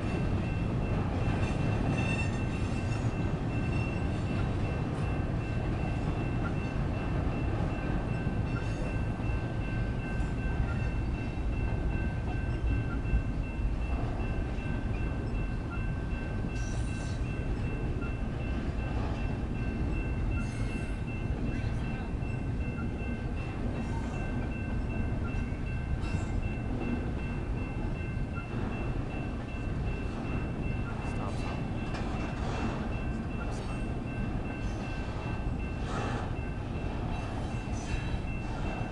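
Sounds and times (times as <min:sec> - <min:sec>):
crossing bells ringing: 0:00.0 - 0:38.9
freight train wheels rumbling: 0:00.0 - 0:38.9.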